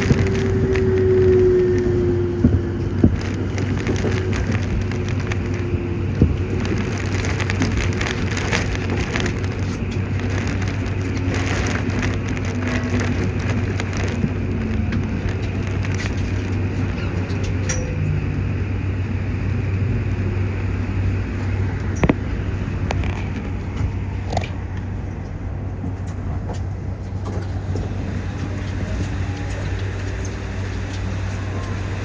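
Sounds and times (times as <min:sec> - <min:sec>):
electric train running hum: 0:00.0 - 0:32.0
rain on train windows: 0:00.0 - 0:32.0.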